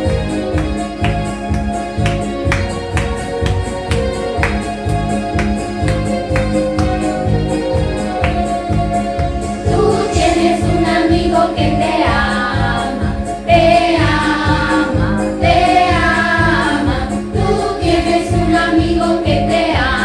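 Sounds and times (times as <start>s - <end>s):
musical accompaniment with beat: 0.0s - 17.8s
voices singing a song: 0.0s - 20.0s.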